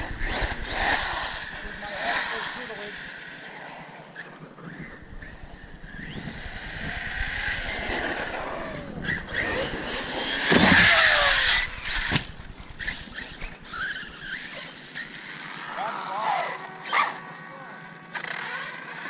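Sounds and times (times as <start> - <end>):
radio-controlled car motor: 0.0 - 19.0.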